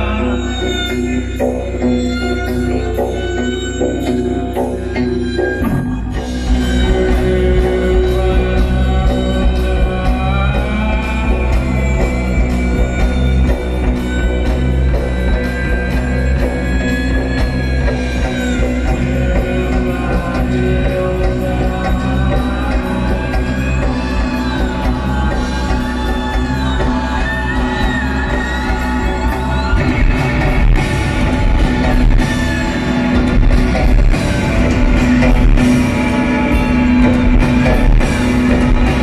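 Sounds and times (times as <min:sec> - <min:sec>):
high gliding melodic line: 0:00.0 - 0:39.0
rock band playing loud: 0:00.0 - 0:39.0.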